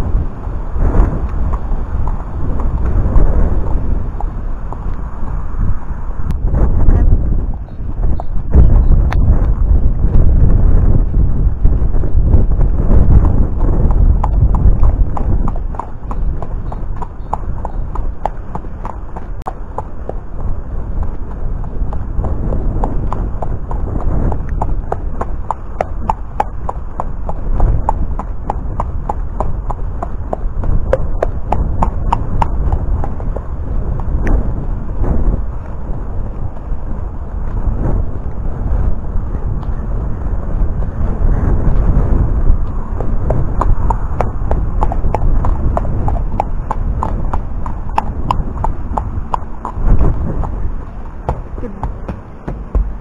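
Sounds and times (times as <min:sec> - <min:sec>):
hooves on gravel track: 0:00.0 - 0:53.0
low rumble: 0:00.0 - 0:53.0.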